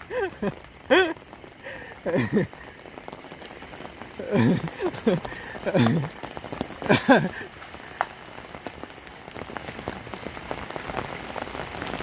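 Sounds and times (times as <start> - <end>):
heavy rain on pavement: 0.0 - 12.0.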